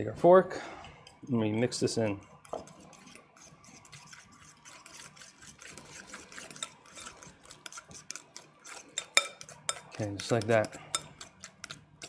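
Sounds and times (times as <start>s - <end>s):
fork scraping a bowl: 2.1s - 12.0s.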